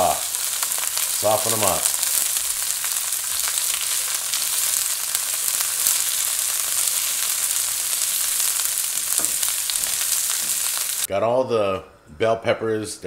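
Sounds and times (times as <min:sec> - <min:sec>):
peppers sizzling in oil: 0:00.0 - 0:11.1.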